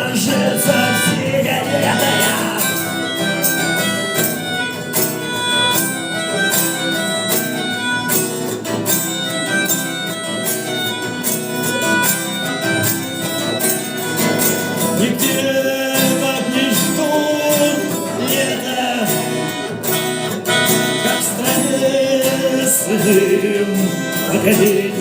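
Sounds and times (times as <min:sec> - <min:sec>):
rock band playing instrumental: 0:00.0 - 0:25.0.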